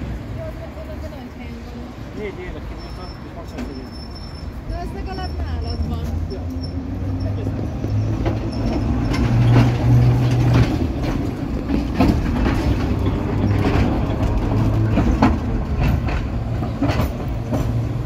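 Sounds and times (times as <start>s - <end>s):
tram low hum: 0.0s - 18.0s
tram wheels clicking on track: 0.0s - 18.0s.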